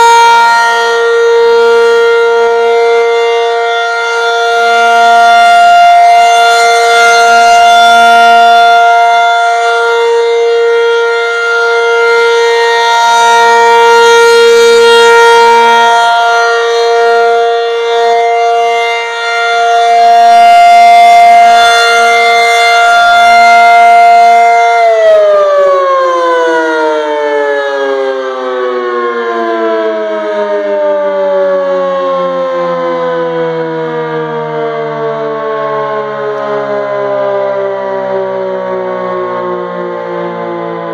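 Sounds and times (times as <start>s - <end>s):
warning siren winding down: 0.0s - 40.9s.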